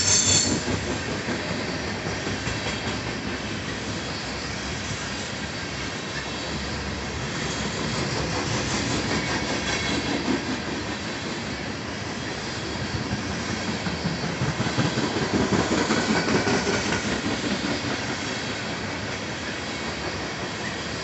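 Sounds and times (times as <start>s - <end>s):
freight train wheels clattering on rails: 0.0s - 21.0s.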